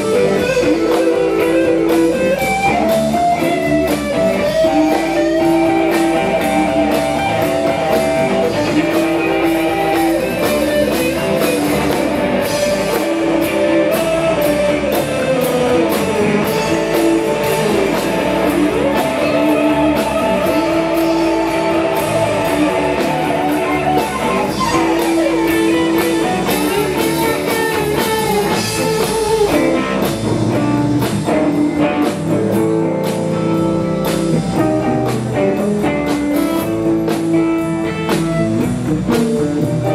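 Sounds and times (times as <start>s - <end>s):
electric guitar: 0.0s - 39.9s
live blues band playing: 0.0s - 39.9s.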